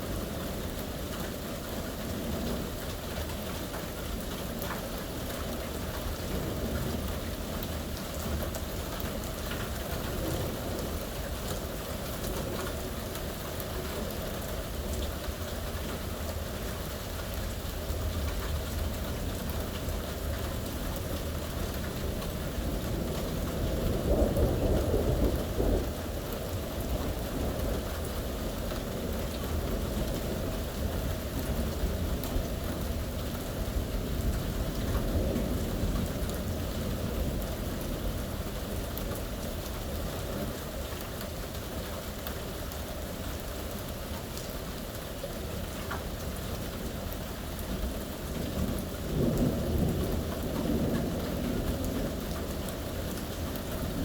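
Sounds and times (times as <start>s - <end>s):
low rumble of thunder: 0.0s - 41.0s, 45.4s - 54.0s
steady rain falling: 0.0s - 54.0s.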